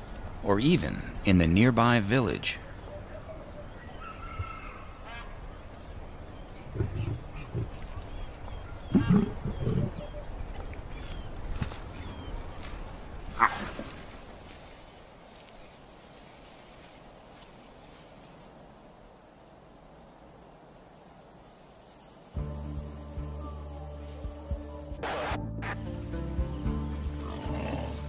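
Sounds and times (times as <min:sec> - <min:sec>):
crickets trilling: 0:00.0 - 0:28.0.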